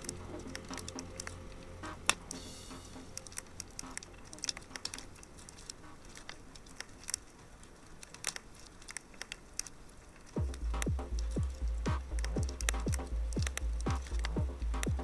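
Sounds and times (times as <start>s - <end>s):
faint hiss: 0.0s - 15.0s
fire crackling: 0.0s - 15.0s.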